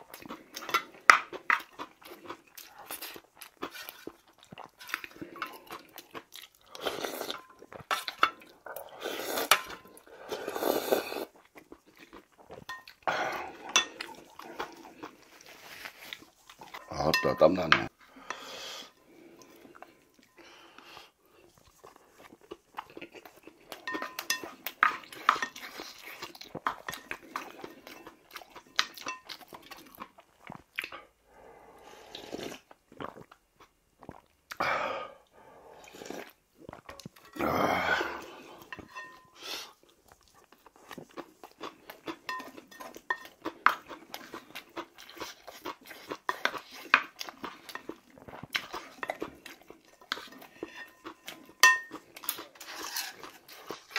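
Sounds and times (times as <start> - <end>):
chewing and crunching: 0.0 - 17.7, 18.9 - 31.2, 31.8 - 34.6, 35.7 - 53.9.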